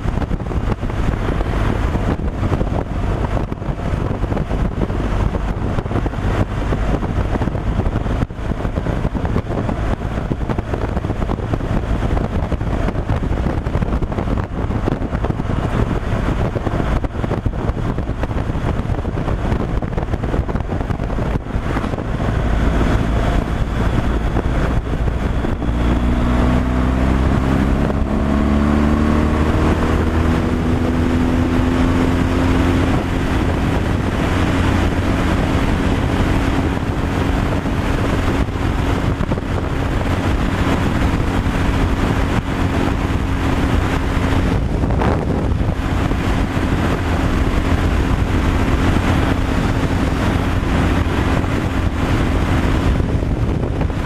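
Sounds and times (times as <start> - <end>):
road and wind noise: 0.0 - 54.0
truck engine running: 0.0 - 54.0.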